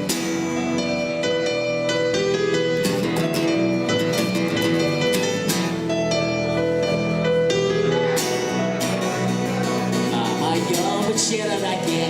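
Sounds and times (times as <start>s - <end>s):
plucked string instrumental music: 0.0s - 12.0s.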